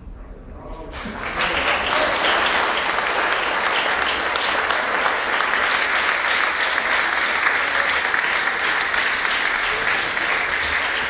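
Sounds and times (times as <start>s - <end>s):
crowd applauding: 0.9s - 11.0s.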